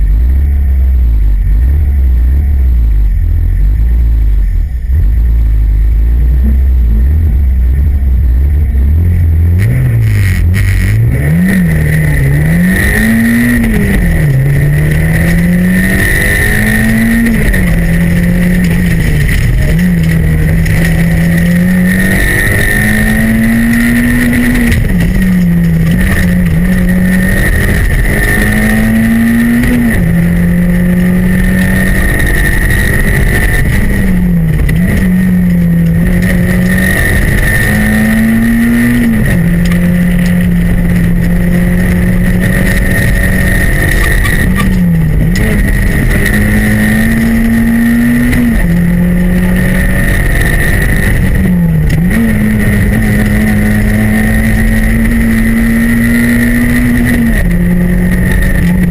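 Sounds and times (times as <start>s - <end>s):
car engine revving: 0.0s - 58.9s
steady high whine: 0.0s - 58.9s.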